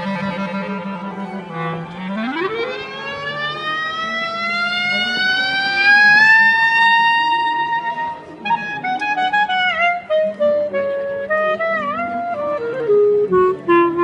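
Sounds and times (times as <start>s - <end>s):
clarinet glissando and bent notes: 0.0s - 14.0s.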